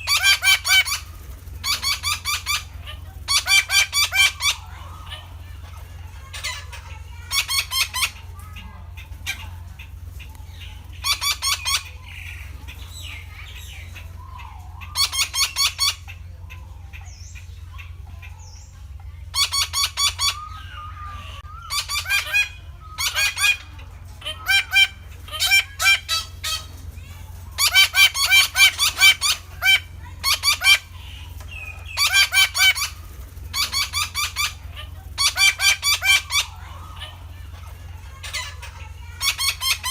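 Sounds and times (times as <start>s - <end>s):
parakeets calling: 0.0s - 39.9s
steady low hum: 0.0s - 39.9s.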